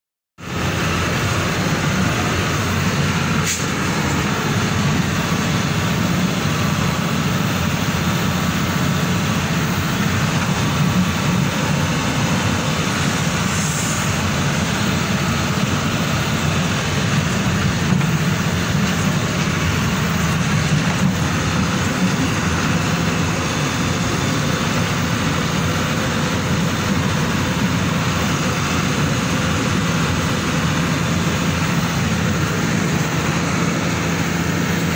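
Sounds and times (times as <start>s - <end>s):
vehicle engine and road noise: 0.4s - 34.9s.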